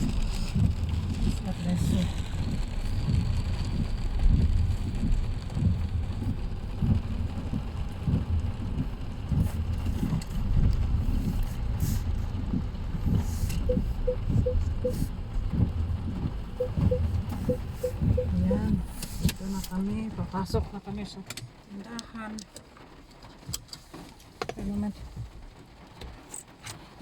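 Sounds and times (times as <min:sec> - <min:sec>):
turn signal ticking: 0:00.0 - 0:26.9
car road and engine rumble: 0:00.0 - 0:27.0.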